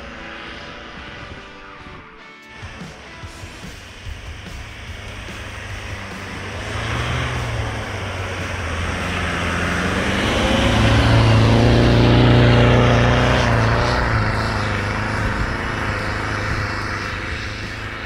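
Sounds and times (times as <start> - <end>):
vehicle engine driving past: 0.0 - 18.0.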